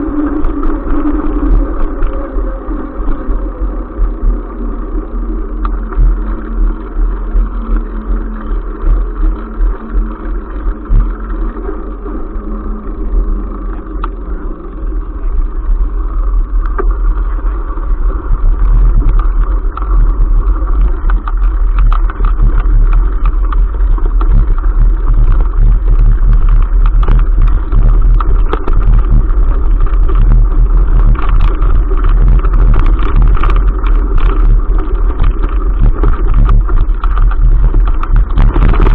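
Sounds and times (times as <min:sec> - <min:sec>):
bike tyres and frame rattling: 0:00.0 - 0:38.9.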